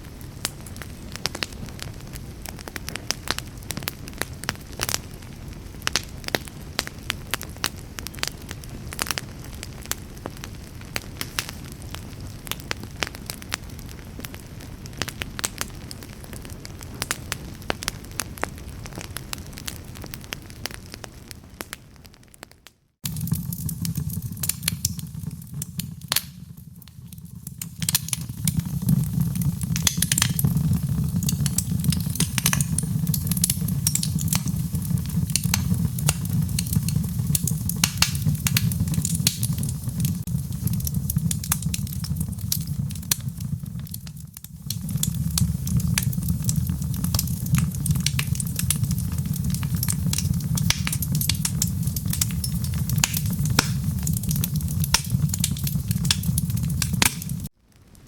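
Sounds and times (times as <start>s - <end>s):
low rumble of flames: 0.0s - 22.4s, 23.0s - 58.0s
wood fire crackling: 0.0s - 58.0s.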